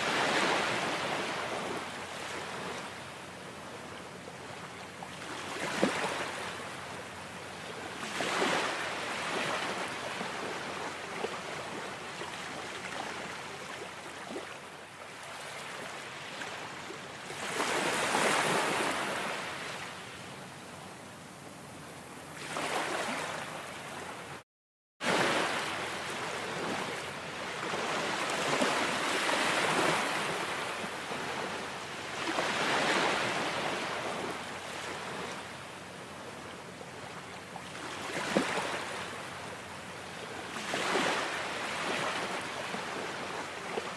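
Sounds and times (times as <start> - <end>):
ocean waves breaking: 0.0 - 3.0, 5.2 - 6.6, 7.6 - 20.0, 22.4 - 24.4, 25.0 - 36.4, 37.2 - 43.9.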